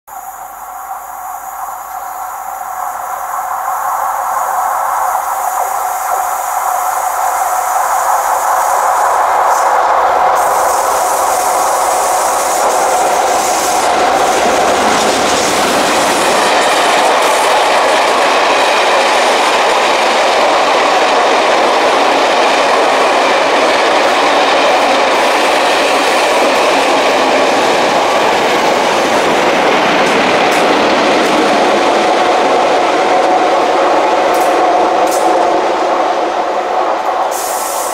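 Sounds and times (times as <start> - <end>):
train wheels rolling on rails: 0.1 - 37.9.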